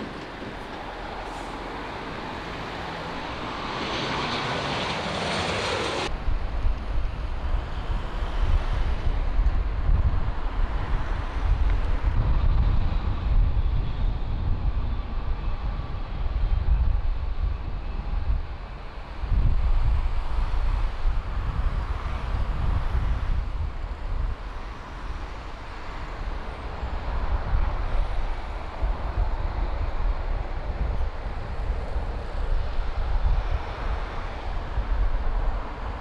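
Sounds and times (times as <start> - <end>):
airliner engine noise: 0.0 - 36.0.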